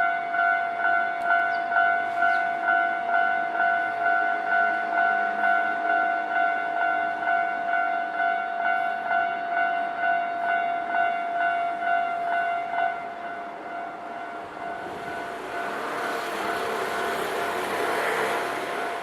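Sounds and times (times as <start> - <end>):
approaching train: 0.0 - 19.0.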